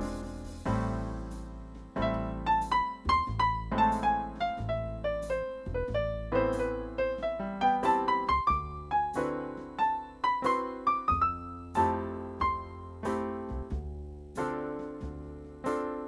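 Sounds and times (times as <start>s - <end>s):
solo piano piece: 0.0s - 16.0s.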